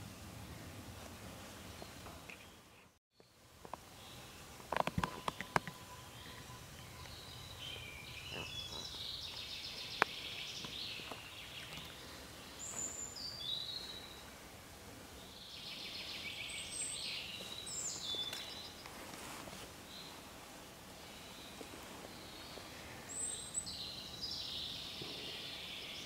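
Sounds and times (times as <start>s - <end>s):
songbirds singing trills: 1.6s - 14.4s, 15.1s - 19.0s, 19.8s - 26.0s.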